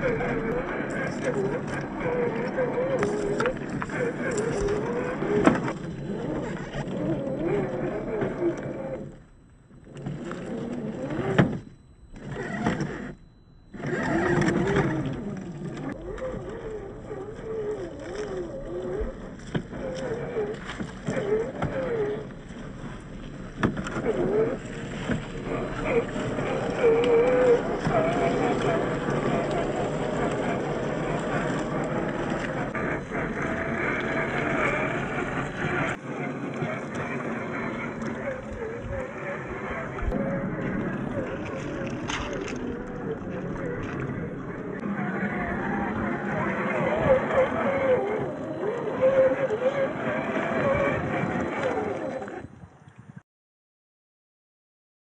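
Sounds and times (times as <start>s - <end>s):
tyres on dry leaves and stones: 0.0s - 9.1s, 13.8s - 50.2s
electric motor whining: 0.0s - 52.4s
toy car wading through water: 0.0s - 52.6s.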